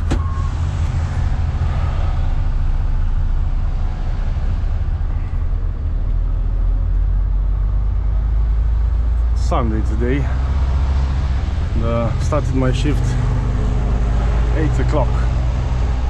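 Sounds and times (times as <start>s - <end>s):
road and cab noise: 0.0s - 16.0s
truck diesel engine droning: 0.0s - 16.0s.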